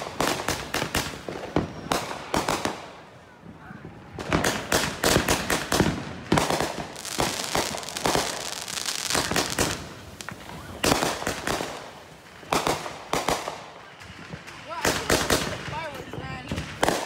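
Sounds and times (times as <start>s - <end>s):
fireworks crackling: 0.0s - 17.0s
fireworks launches and bursts: 0.0s - 17.0s.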